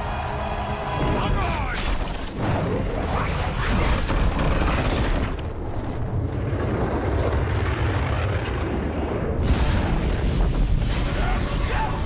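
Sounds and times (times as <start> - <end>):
flaming projectile rumbling roar: 2.0 - 12.0.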